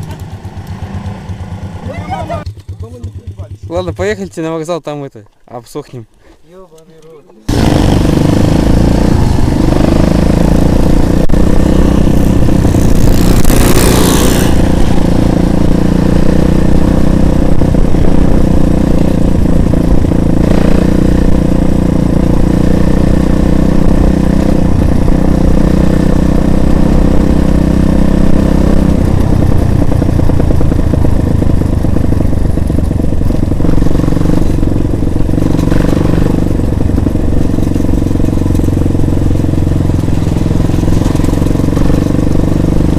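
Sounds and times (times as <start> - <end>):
motorcycle engine running: 0.0 - 4.6, 7.5 - 42.9.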